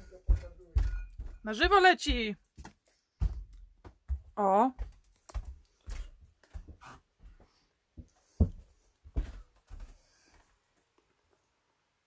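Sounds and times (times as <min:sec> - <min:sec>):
footsteps on wooden floor: 0:00.0 - 0:10.5.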